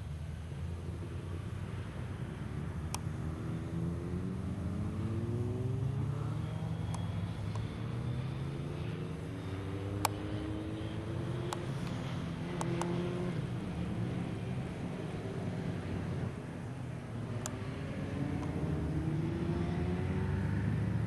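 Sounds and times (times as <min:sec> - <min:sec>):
car engine: 0:00.0 - 0:21.0
road rumble: 0:00.0 - 0:21.0.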